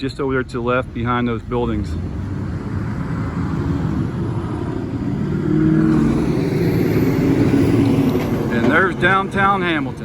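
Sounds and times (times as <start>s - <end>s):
vehicle engine passing: 0.8s - 10.0s.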